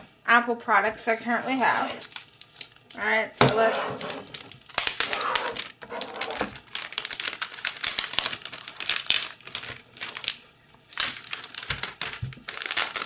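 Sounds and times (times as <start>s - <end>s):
plastic wrapping crinkling: 1.5s - 3.0s, 4.0s - 13.0s.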